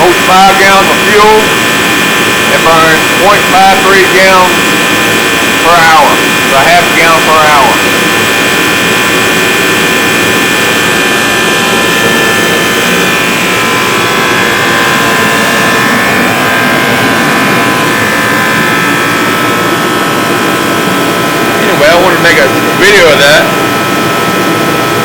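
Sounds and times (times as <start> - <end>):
heater burner and blower noise: 0.0 - 25.0
steady whining tones: 0.0 - 25.0.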